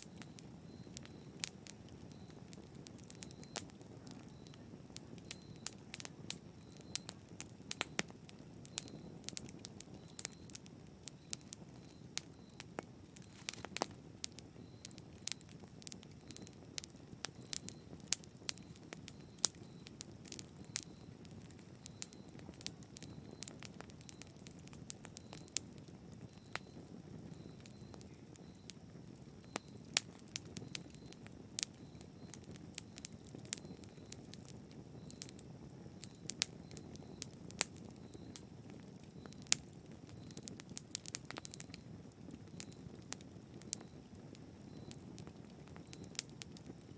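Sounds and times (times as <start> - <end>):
fire crackling and snapping: 0.0 - 46.9.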